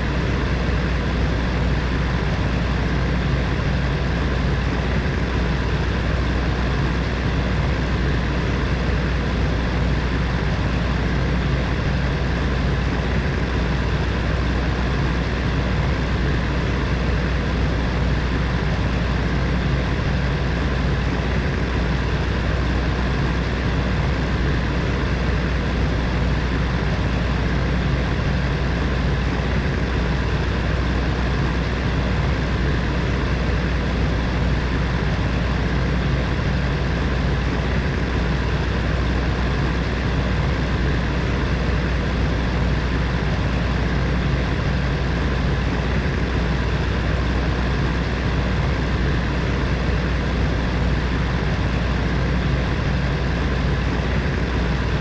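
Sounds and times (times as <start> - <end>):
heater fan running: 0.0 - 55.0.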